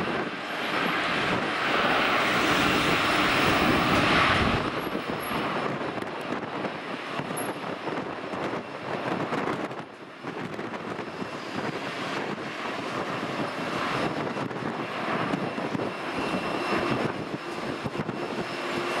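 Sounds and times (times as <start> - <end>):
distant jet engines rumbling: 0.0 - 19.0.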